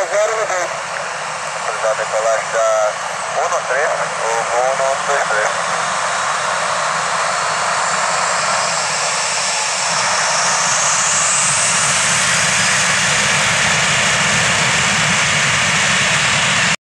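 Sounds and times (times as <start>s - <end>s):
high whine: 0.0s - 16.8s
jet engines at takeoff thrust: 0.0s - 16.8s.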